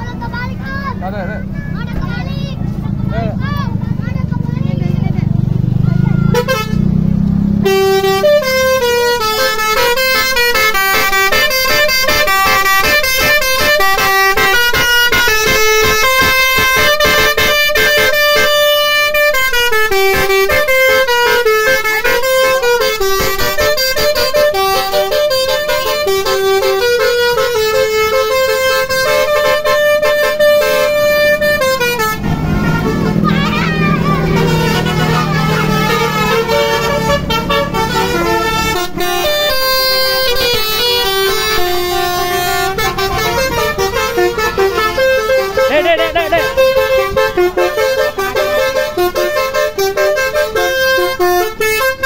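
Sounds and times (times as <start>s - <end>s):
musical trumpet horns melody: 6.2s - 6.9s, 7.5s - 52.0s.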